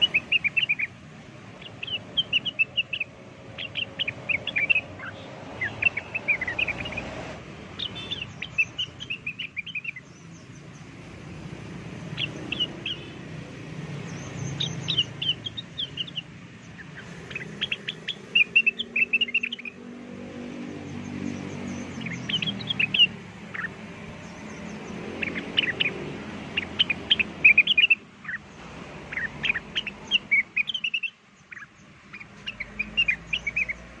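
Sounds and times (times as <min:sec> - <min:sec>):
bird chirping and whistling: 0:00.0 - 0:00.9, 0:01.6 - 0:07.2, 0:07.8 - 0:10.2, 0:12.1 - 0:13.2, 0:14.0 - 0:19.8, 0:21.5 - 0:28.4, 0:29.1 - 0:33.8.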